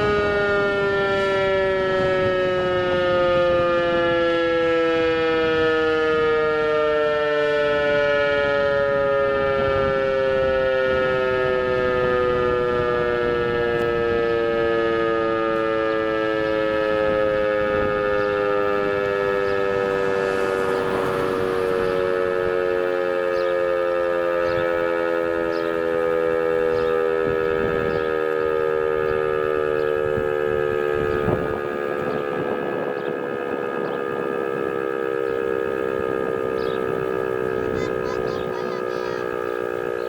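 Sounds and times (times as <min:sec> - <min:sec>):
wind rumbling on microphone: 0:00.0 - 0:06.5, 0:07.7 - 0:23.5, 0:26.1 - 0:38.1
siren sounding steady tones: 0:00.0 - 0:40.0.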